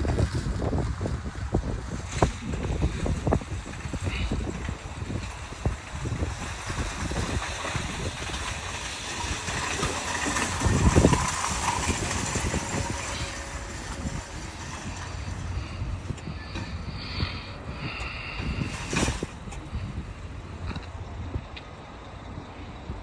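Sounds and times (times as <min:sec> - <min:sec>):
shopping carts rattling over asphalt: 0:00.0 - 0:23.0.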